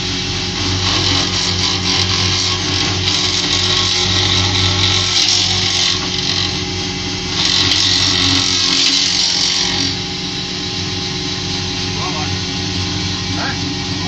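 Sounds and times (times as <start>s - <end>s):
cutting hiss of planing wood: 0.0s - 14.0s
jointer running: 0.0s - 14.0s.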